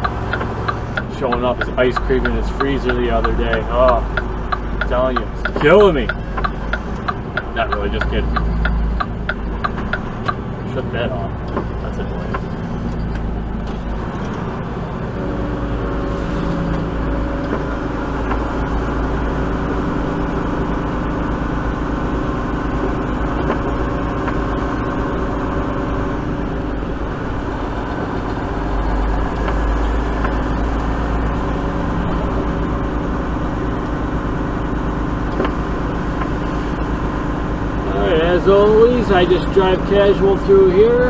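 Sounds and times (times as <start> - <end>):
diesel truck engine running: 0.0 - 41.0
road noise: 0.0 - 41.0.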